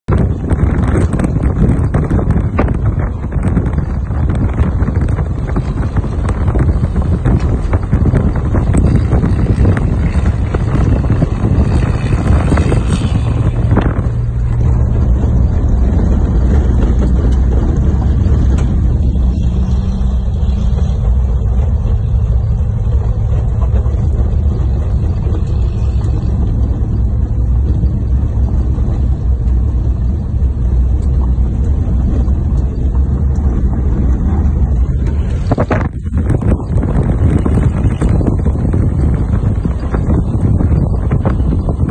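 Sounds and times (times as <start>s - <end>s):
engine and road noise drone: 0.0s - 41.9s
wind buffeting microphone: 0.0s - 41.9s.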